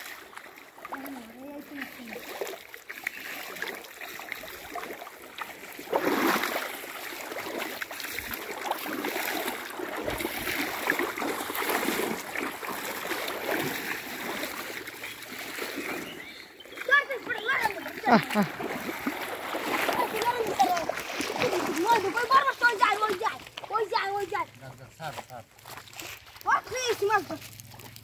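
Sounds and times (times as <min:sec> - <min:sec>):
river water sloshing and splashing: 0:00.0 - 0:28.0.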